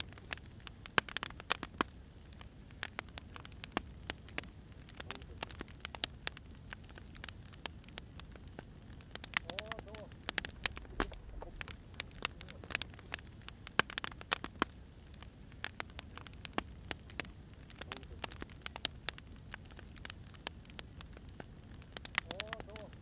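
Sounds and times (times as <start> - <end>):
firewood crackling: 0.0 - 23.0.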